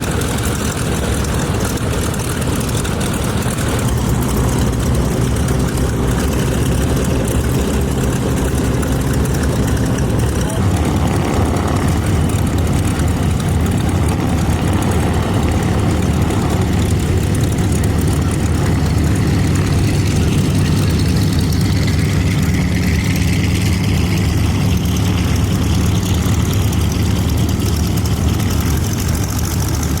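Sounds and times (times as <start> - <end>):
propeller plane engines taxiing: 0.0 - 30.0.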